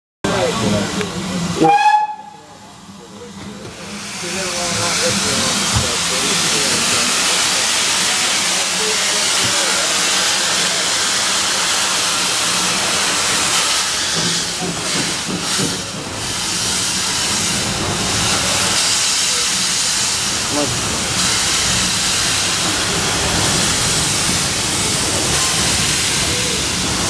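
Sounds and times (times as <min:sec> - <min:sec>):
steam locomotive hissing: 0:00.3 - 0:27.0.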